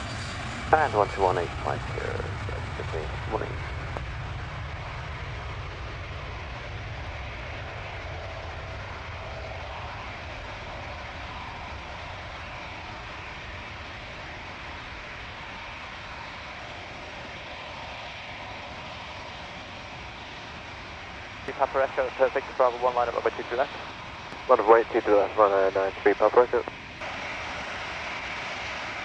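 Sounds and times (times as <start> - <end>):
airliner engines rumbling: 0.0 - 29.0.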